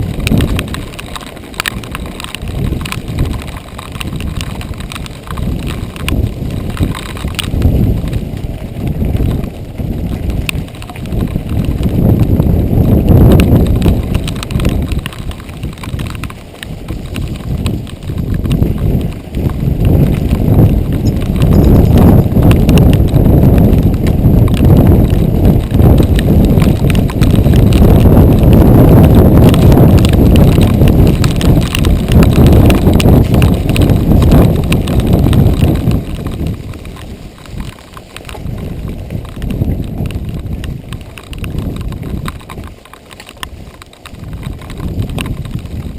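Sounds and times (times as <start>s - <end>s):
mountain bike rattling on rough trail: 0.0s - 45.9s.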